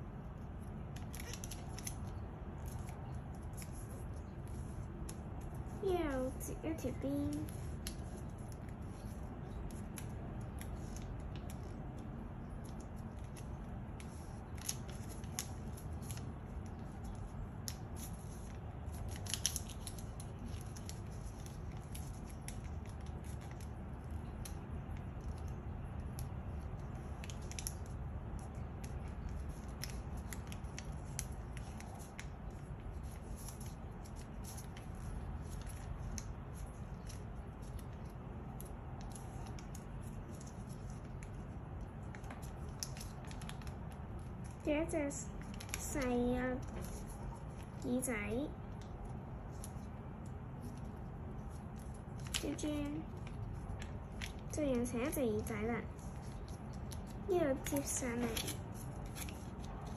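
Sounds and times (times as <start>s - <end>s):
paper rustling and crinkling: 0.8s - 59.9s.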